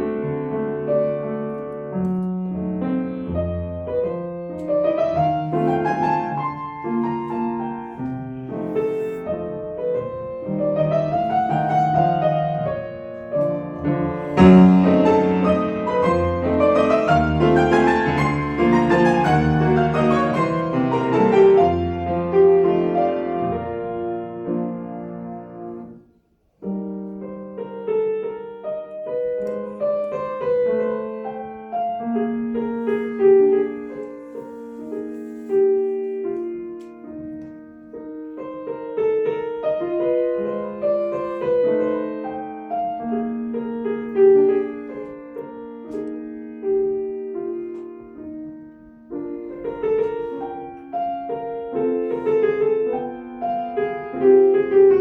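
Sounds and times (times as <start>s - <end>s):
solo piano piece: 0.0s - 55.0s.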